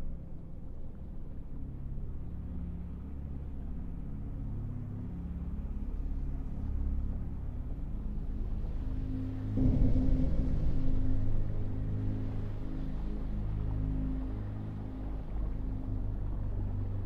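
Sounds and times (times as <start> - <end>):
low ominous rumbling drone: 0.0 - 17.0.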